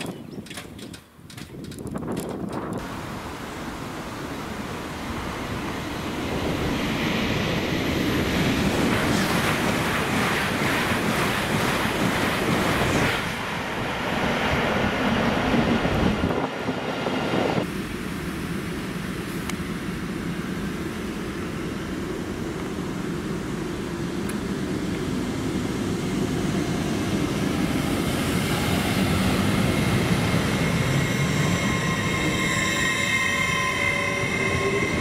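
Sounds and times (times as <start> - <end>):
steady train hum: 0.0 - 35.0
high-speed train passing: 2.0 - 35.0.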